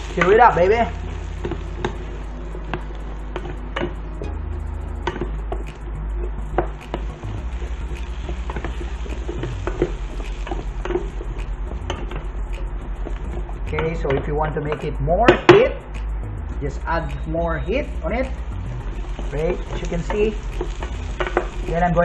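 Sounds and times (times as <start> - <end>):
steady low hum: 0.0 - 15.2, 15.8 - 22.0.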